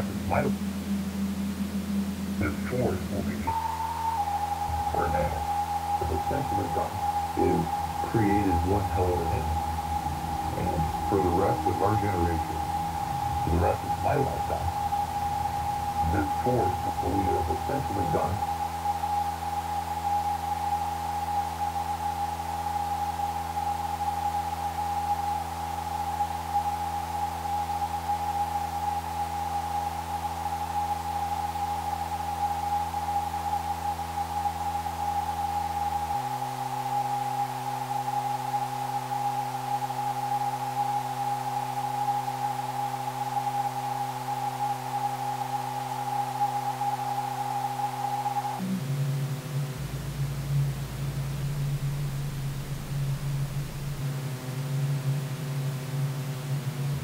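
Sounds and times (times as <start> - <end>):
high held electronic tone: 0.0 - 55.2
low sustained electronic tones: 0.0 - 57.0.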